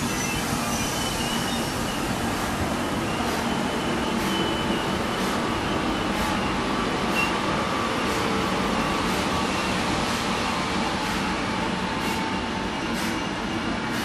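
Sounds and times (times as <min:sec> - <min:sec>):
train rolling slowly: 0:00.0 - 0:14.0.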